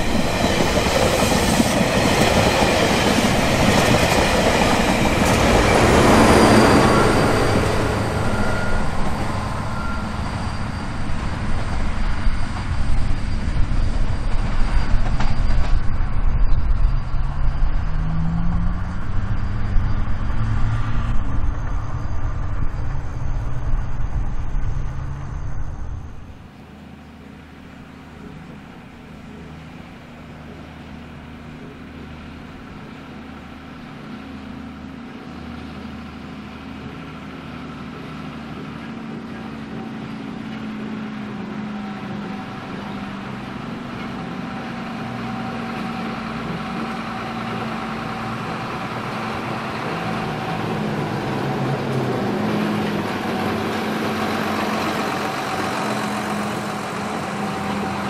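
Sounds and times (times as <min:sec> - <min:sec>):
diesel locomotive engines passing: 0:00.0 - 0:58.0.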